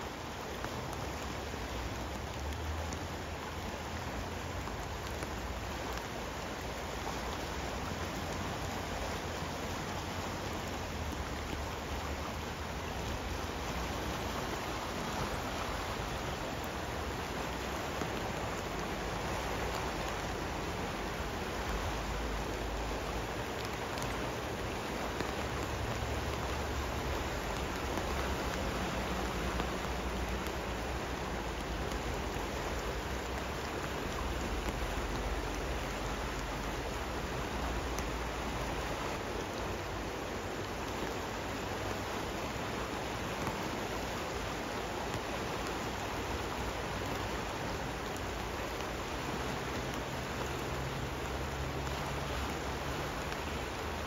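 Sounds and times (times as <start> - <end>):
river running: 0.0 - 54.0
steady rain: 0.0 - 54.0
ticks of raindrops: 0.0 - 54.0.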